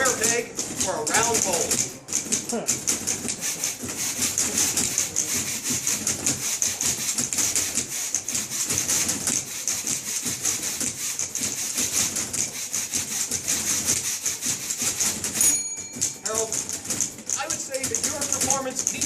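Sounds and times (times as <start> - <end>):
typewriters clattering: 0.0 - 19.0.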